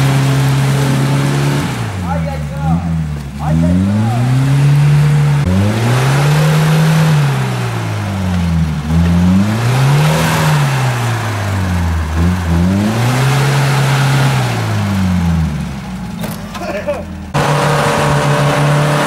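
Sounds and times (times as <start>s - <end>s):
engine revving: 0.0s - 19.0s
tyres churning through mud: 0.0s - 19.0s.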